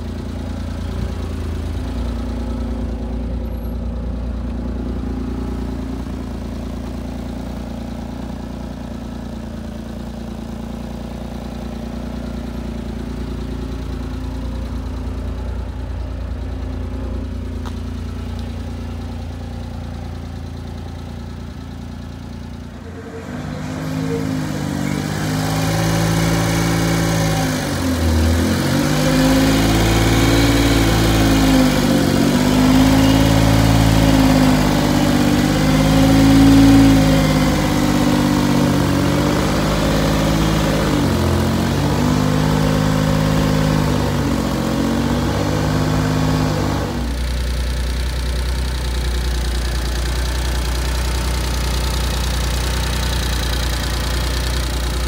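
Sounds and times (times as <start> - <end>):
truck engine revving and idling: 0.0 - 55.0.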